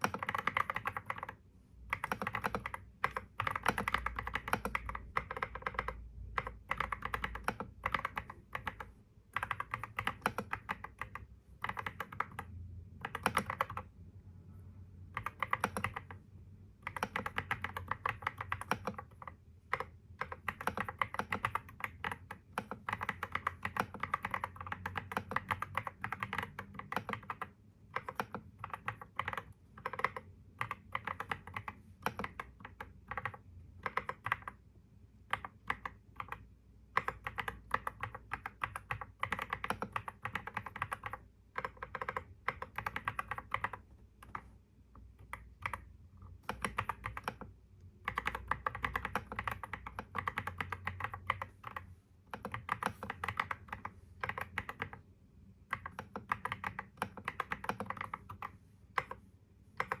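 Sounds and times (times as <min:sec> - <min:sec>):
keyboard typing: 0:00.0 - 0:14.0, 0:15.0 - 0:34.6, 0:35.2 - 1:00.0
faint low hum: 0:00.0 - 1:00.0.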